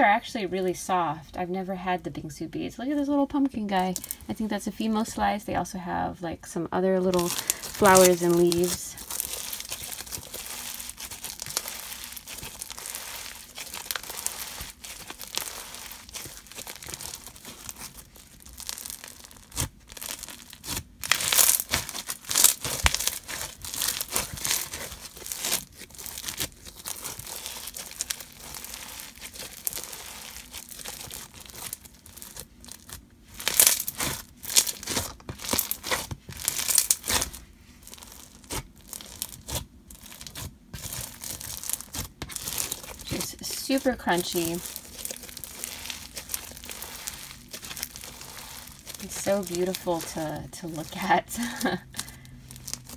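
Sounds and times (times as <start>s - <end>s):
crunchy beads in slime: 3.6s - 4.4s, 7.1s - 52.9s
slime squished by hand: 7.2s - 52.9s.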